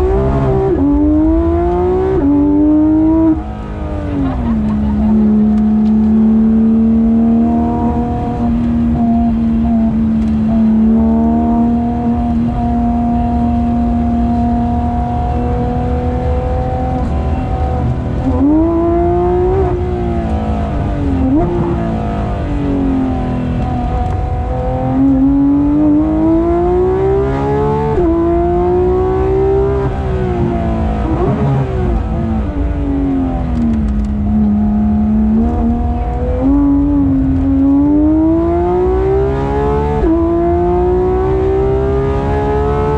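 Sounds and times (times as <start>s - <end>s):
sports car engine accelerating: 0.0s - 42.9s.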